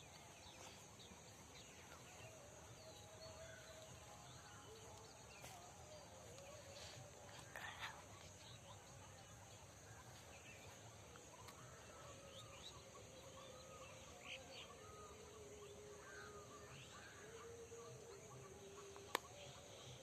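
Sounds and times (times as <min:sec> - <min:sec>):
background hiss: 0:00.0 - 0:20.0
small birds chirping: 0:00.0 - 0:20.0.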